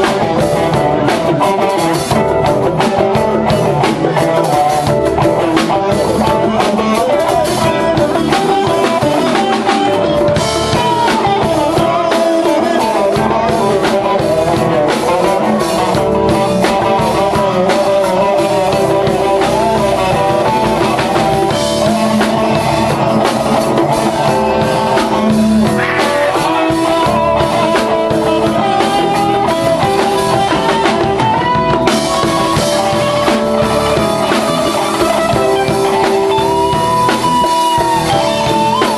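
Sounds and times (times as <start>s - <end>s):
band playing instrumental: 0.0s - 38.9s.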